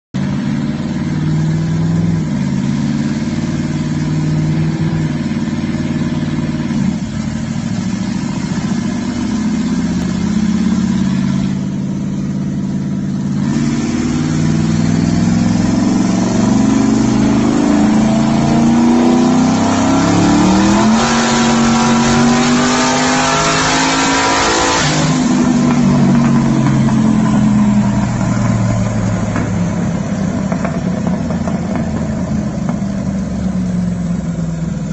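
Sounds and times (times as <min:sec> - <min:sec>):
car engine revving on dyno: 0:00.2 - 0:34.9
exhaust and turbo rush: 0:00.2 - 0:34.9.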